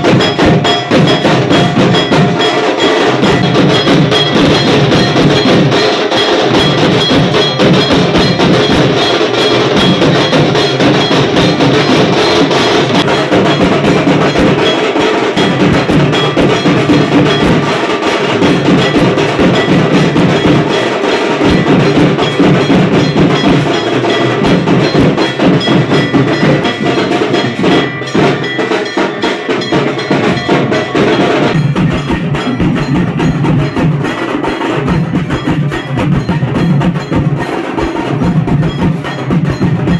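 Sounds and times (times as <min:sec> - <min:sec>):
fast metallic percussion: 0:00.0 - 0:39.9.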